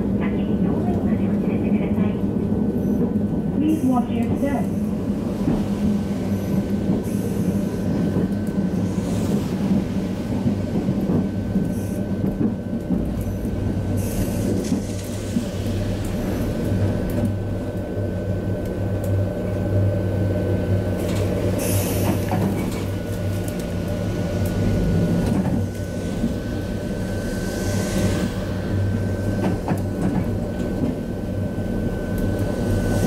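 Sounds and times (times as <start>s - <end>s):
tram low hum: 0.0s - 33.0s.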